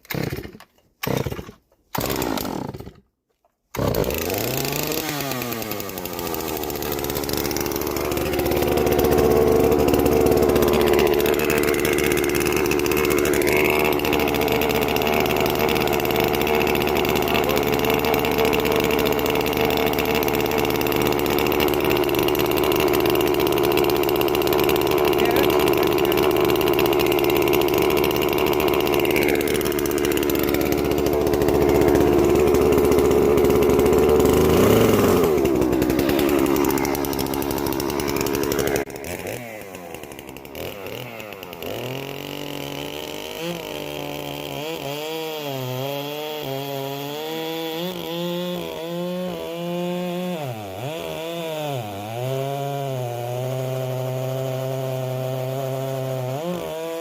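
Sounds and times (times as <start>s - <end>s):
chainsaw cutting a log: 0.0s - 3.1s, 3.7s - 57.0s.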